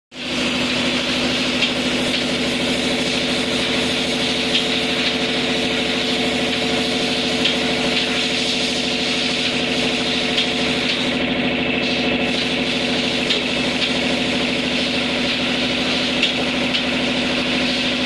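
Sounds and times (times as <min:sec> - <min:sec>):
machine humming with fast pulsing: 0:00.1 - 0:18.0.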